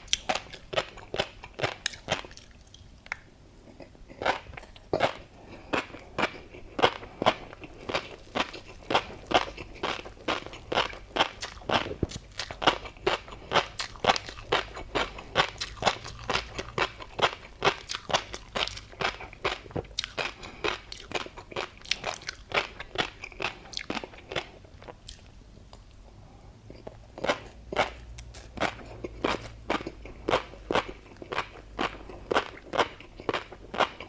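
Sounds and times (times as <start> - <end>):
crunchy chewing: 0.0 - 26.0, 26.7 - 34.0.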